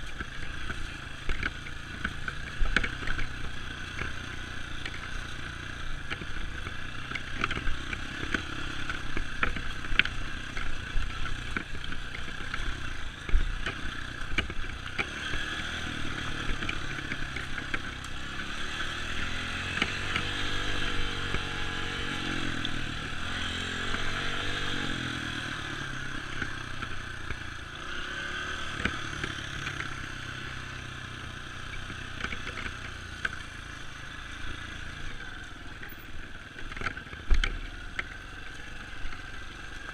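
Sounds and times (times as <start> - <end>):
dirt bike engine revving: 0.0 - 35.2.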